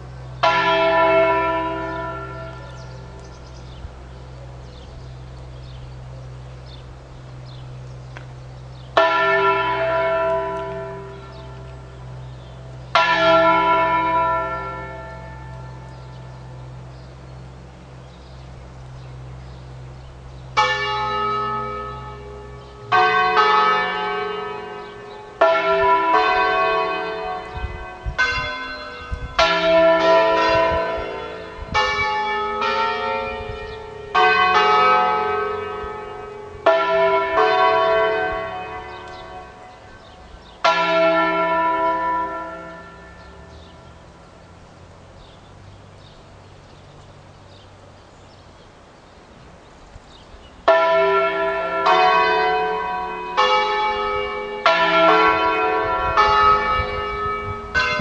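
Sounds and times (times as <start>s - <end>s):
church bells ringing: 0.0s - 45.4s, 50.6s - 58.0s.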